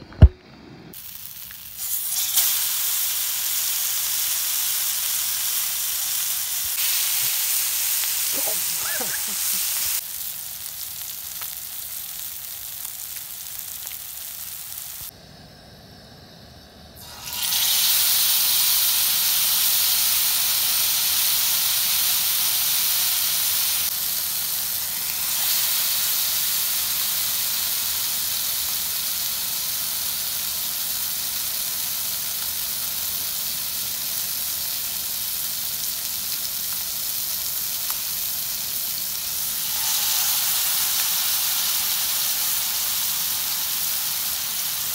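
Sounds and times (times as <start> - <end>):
fish sizzling in oil: 0.9 - 15.1, 17.0 - 44.9.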